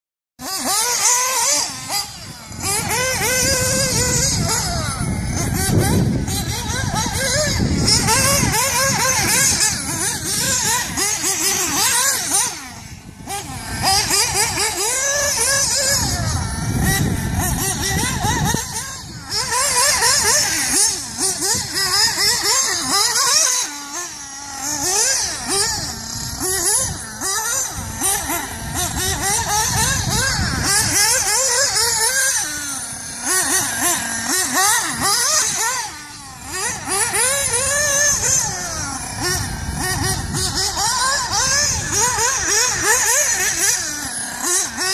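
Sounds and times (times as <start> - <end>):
rc buggy motor revving: 0.4 - 44.9.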